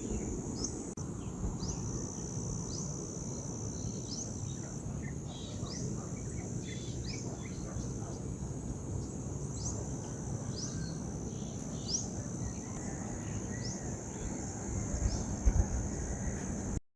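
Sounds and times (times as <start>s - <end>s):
insects trilling: 0.0s - 16.8s
low wind rumble: 0.0s - 16.8s.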